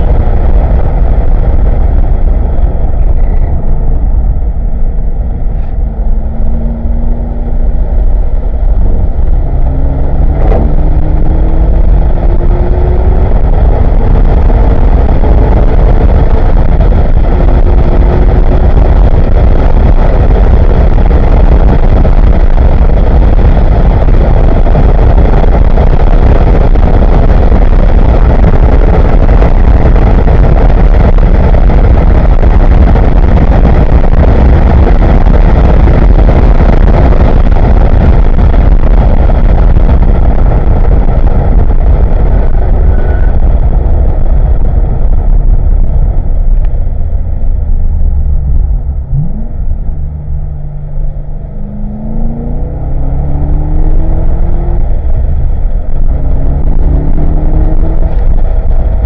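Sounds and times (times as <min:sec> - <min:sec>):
car engine at high revs: 0:00.0 - 0:59.0
wind and road noise: 0:00.0 - 0:59.0.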